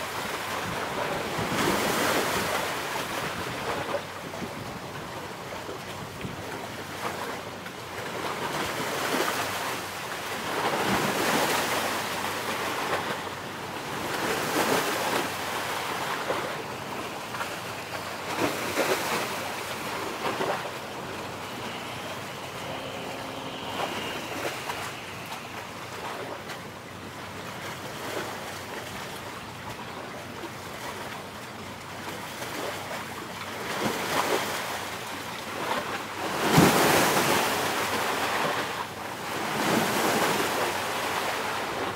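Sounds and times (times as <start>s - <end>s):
sea waves washing onto shore: 0.0s - 41.9s.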